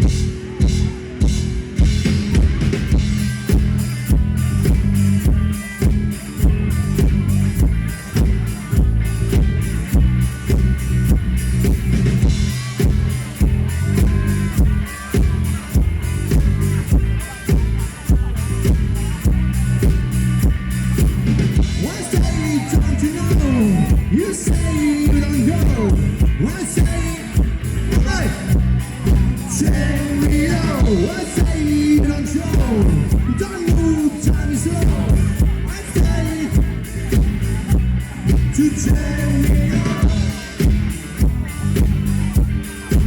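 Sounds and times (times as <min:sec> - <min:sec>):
bass drum beat: 0:00.0 - 0:43.0
rock band playing: 0:00.0 - 0:43.0.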